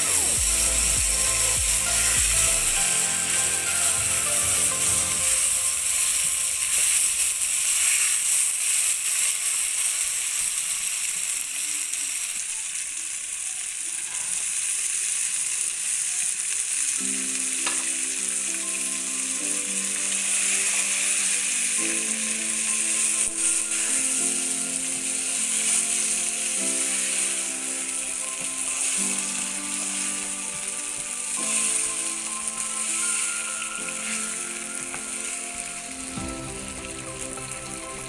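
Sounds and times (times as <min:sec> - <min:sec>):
vegetables sizzling in oil: 0:00.0 - 0:38.0
spatula stirring in a pan: 0:00.6 - 0:11.4, 0:14.0 - 0:36.2.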